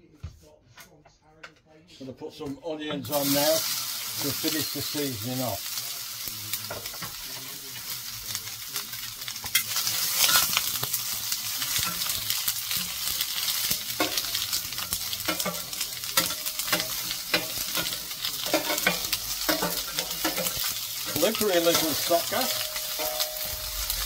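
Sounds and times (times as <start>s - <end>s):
onions sizzling on griddle: 3.0s - 24.0s.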